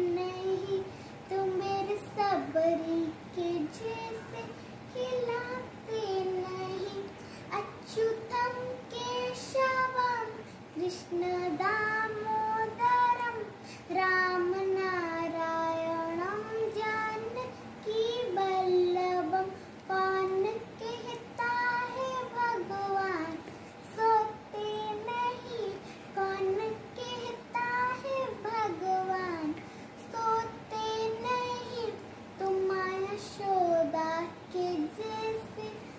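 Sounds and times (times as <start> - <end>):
girl singing unaccompanied: 0.0 - 35.9.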